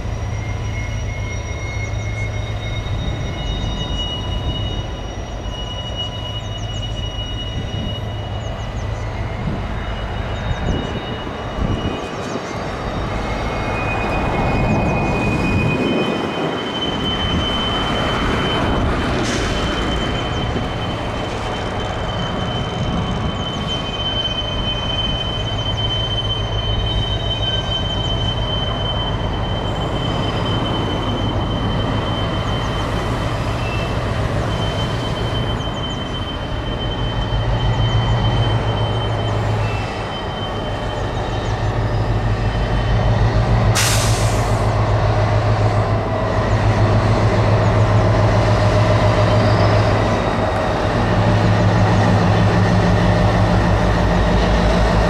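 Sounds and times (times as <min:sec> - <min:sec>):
diesel locomotive engine droning: 0:00.0 - 0:55.0
wheel flanges squealing: 0:00.0 - 0:55.0.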